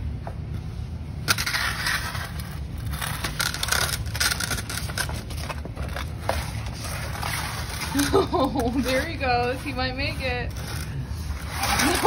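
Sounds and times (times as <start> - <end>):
steady low rumble: 0.0 - 12.0
cardboard scraping and crackling: 1.3 - 12.0.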